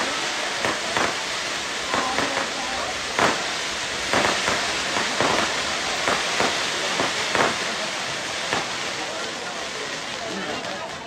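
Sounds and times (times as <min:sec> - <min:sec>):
fireworks bangs: 0:00.0 - 0:11.0
fireworks hiss: 0:00.0 - 0:11.0.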